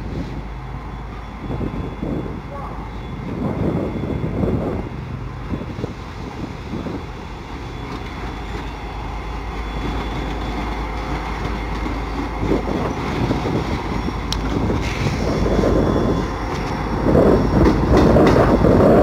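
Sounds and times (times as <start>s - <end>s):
diesel locomotive engines rumbling: 0.0s - 19.0s.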